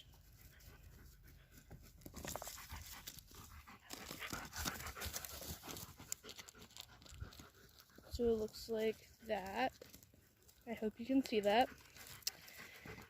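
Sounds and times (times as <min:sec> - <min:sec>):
dog panting: 0:00.3 - 0:13.0
small clicks and rustles: 0:01.6 - 0:13.0.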